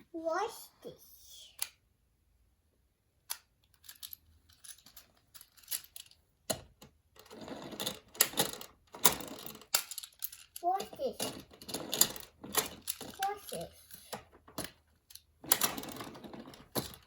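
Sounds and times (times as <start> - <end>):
plastic toy cars clattering: 3.3 - 17.0.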